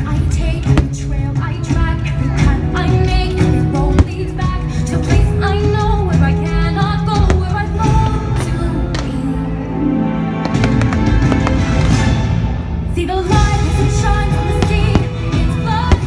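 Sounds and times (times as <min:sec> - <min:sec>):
music with singing: 0:00.0 - 0:16.0.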